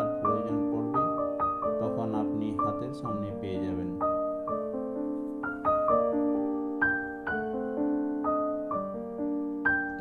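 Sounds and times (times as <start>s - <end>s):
slow gentle piano melody: 0.0s - 10.0s.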